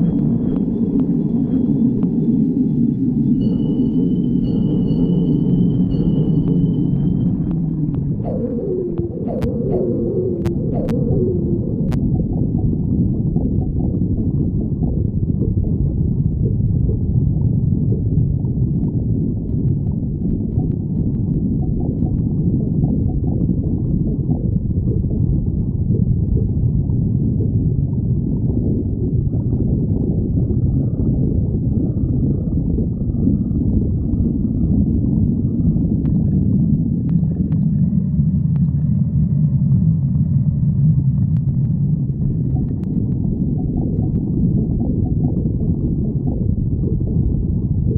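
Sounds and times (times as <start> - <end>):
stomach growling: 6.0 - 47.9.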